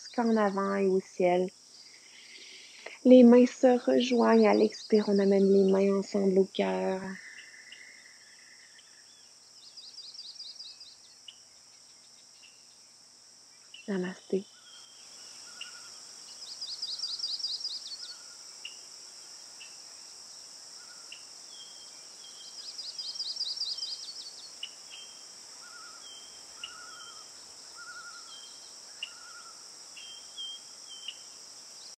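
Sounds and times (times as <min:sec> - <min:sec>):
birds chirping and trilling: 0:00.0 - 0:12.9, 0:13.6 - 0:18.8, 0:20.8 - 0:32.0
high insect drone: 0:00.0 - 0:32.0.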